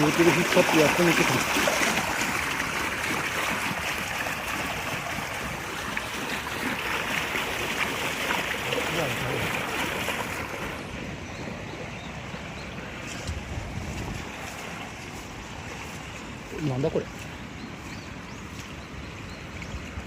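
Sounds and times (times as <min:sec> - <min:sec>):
water rushing in a channel: 0:00.0 - 0:20.0.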